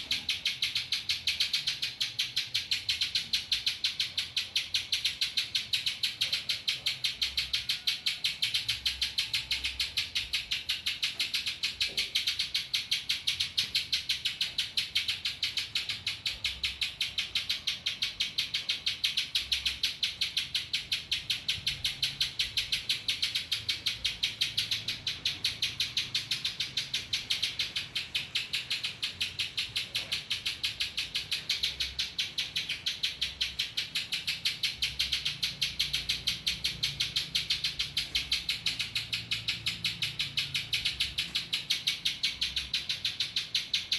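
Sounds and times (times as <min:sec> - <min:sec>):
bird singing rapid high chips: 0:00.0 - 0:43.9.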